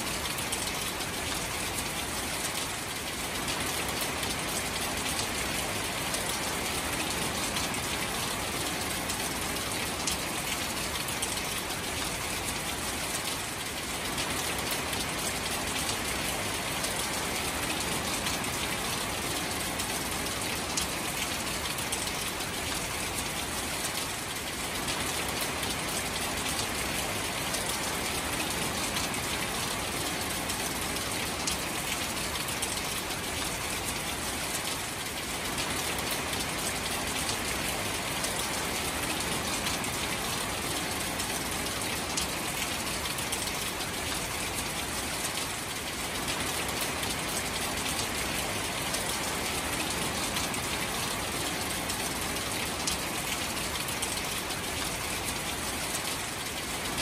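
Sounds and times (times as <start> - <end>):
rain falling on water: 0.0 - 57.0.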